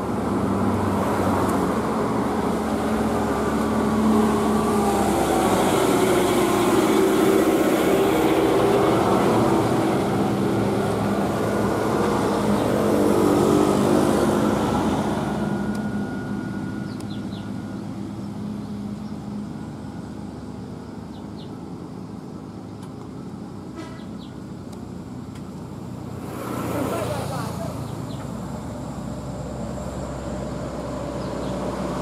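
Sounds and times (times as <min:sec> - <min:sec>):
heavy vehicle engine passing: 0:00.0 - 0:22.6, 0:23.2 - 0:32.0.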